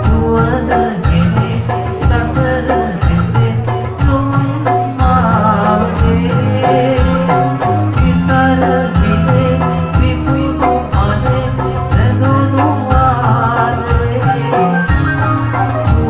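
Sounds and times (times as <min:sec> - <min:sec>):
person singing: 0:00.0 - 0:16.0
song with steady beat: 0:00.0 - 0:16.0.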